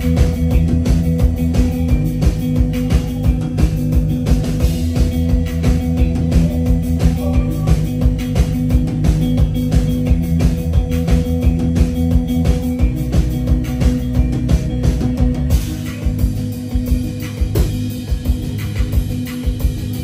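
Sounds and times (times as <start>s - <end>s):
drum kit beat: 0.0s - 20.0s
electric guitar: 0.0s - 20.0s
low bass: 0.0s - 20.0s.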